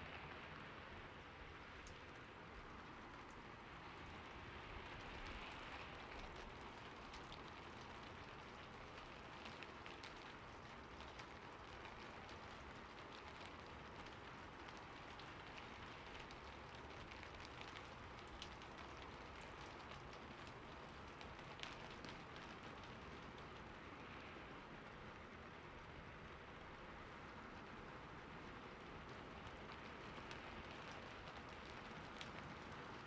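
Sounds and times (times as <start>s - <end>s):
rain on a roof: 0.0s - 33.0s
raindrops ticking: 1.7s - 33.0s.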